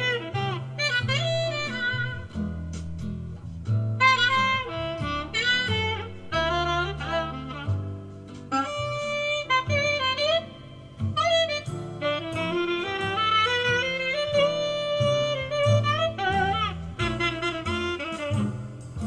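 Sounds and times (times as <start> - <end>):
bass line: 0.0 - 19.0
saxophone melody: 0.0 - 19.0.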